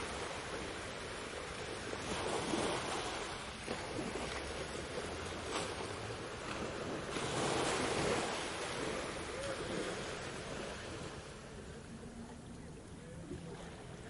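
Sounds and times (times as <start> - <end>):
ocean waves washing onto beach: 0.0 - 14.0.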